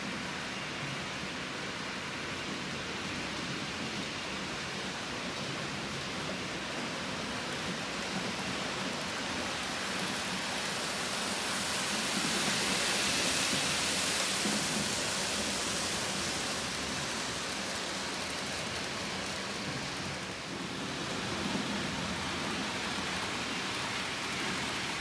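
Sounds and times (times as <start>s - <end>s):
model train wheels and motor hissing: 0.0s - 25.0s.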